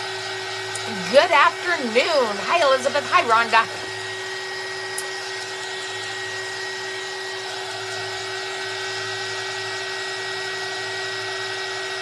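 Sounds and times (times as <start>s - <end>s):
heat tool whine and fan: 0.0s - 12.0s.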